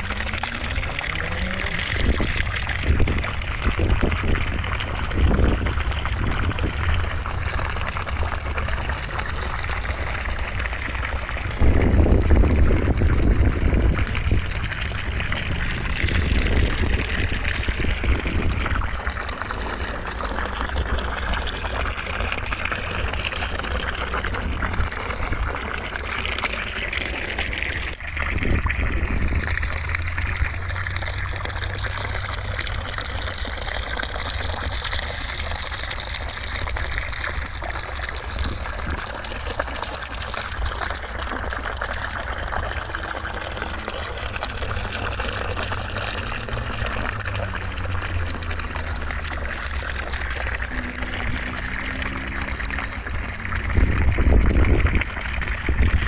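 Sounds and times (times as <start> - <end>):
gushing rushing white noise: 0.0 - 56.0.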